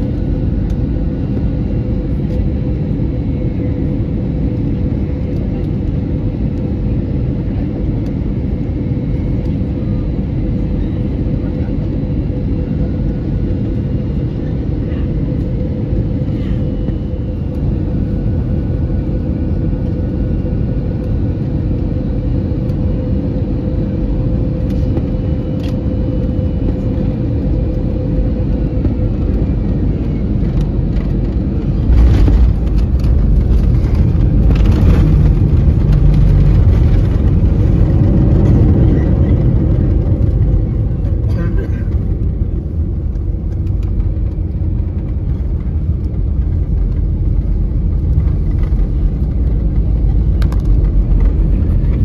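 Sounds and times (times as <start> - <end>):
airplane cabin engine drone: 0.0 - 52.0
heavy low rumble rolling out: 0.0 - 52.0.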